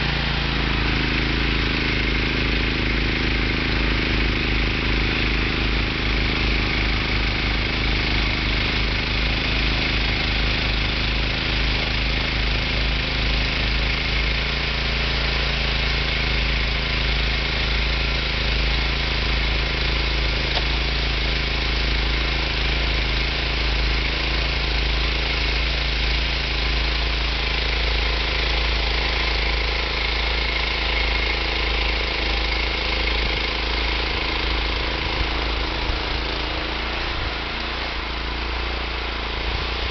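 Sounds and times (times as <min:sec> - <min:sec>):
snow thrower engine running: 0:00.0 - 0:39.9.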